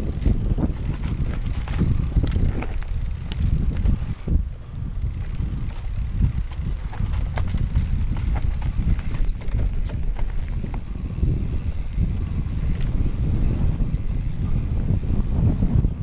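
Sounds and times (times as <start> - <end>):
bike clicks and rattles: 0.0 - 16.0
bike tyres rolling on dirt: 0.0 - 16.0
wind rumbling on microphone: 0.0 - 16.0.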